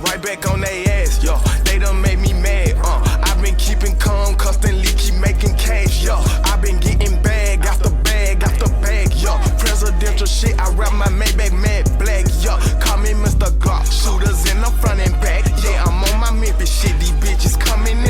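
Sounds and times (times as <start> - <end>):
trap beat with deep bass: 0.0 - 18.0
wavering pitched lines: 0.0 - 18.0.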